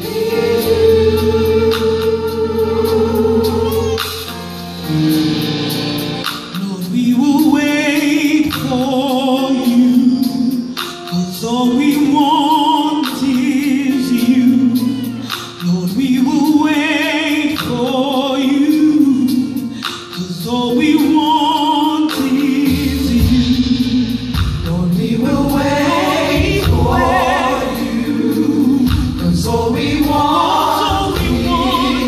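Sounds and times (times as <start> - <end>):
gospel choir singing: 0.0 - 6.2, 6.8 - 32.0
worship band playing: 0.0 - 32.0.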